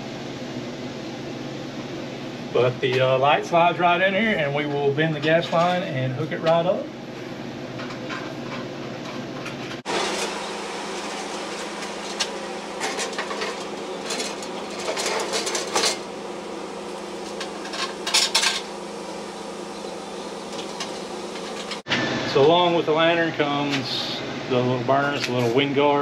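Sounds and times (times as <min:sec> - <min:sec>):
low steady hum: 0:00.0 - 0:21.8.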